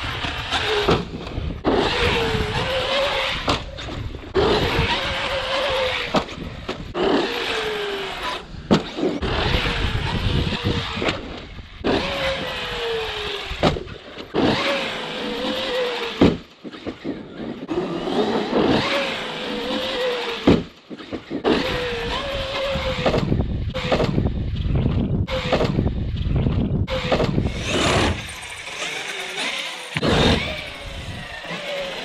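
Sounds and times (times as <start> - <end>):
rc truck electric motor whining: 0.0 - 25.9, 26.9 - 32.0.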